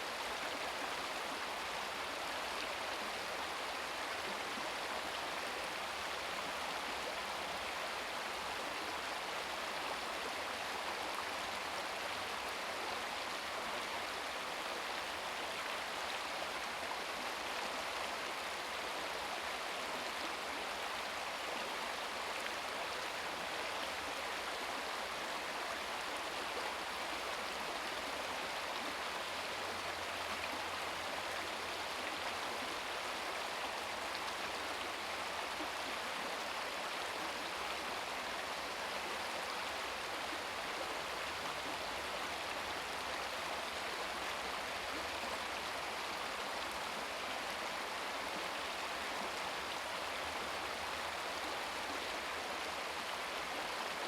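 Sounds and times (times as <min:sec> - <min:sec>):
brook babbling over stones: 0:00.0 - 0:54.0.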